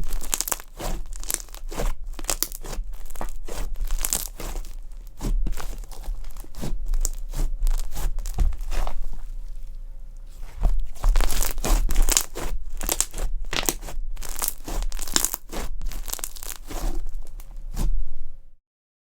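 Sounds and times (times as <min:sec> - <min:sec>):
crunchy slime crackling: 0:00.0 - 0:17.9.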